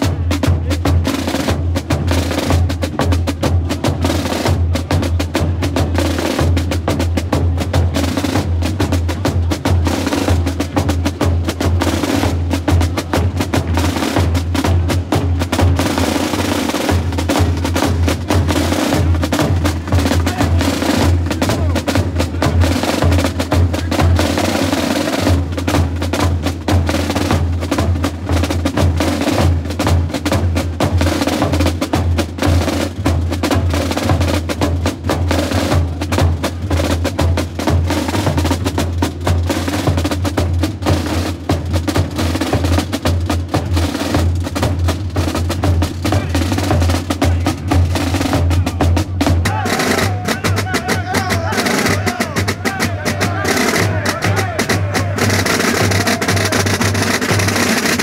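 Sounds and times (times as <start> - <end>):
snare drums rolling rhythm: 0.0 - 58.0.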